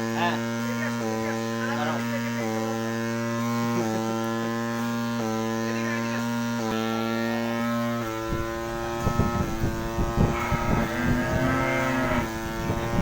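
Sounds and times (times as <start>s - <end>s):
milking machine motor humming: 0.0s - 13.0s.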